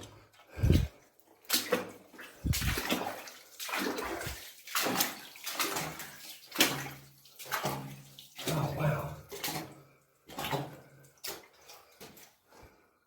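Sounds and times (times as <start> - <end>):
footsteps wading through water: 0.0 - 12.8.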